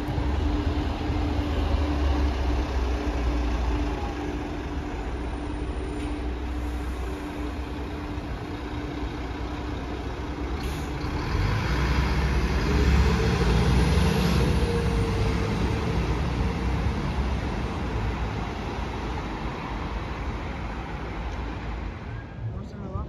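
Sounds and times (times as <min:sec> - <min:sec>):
bus driving away: 0:00.0 - 0:23.0
cars passing: 0:00.0 - 0:23.0.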